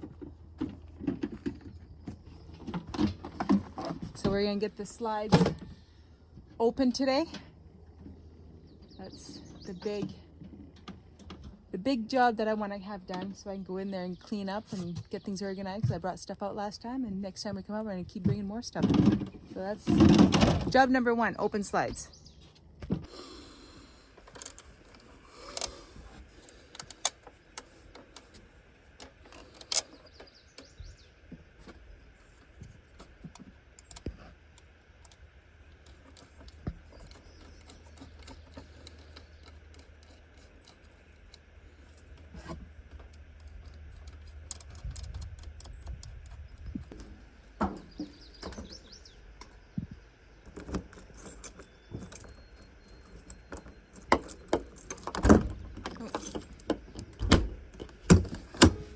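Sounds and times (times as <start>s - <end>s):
faint low hum: 0.0s - 58.9s.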